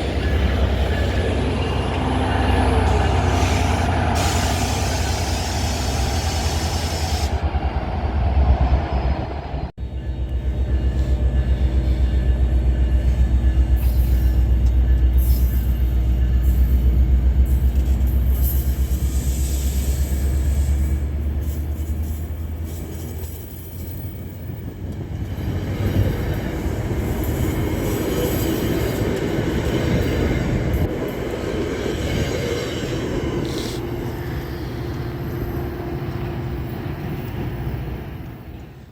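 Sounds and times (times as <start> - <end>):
diesel locomotive engine drone: 0.0 - 38.9
train wheels rumbling on track: 0.0 - 38.9.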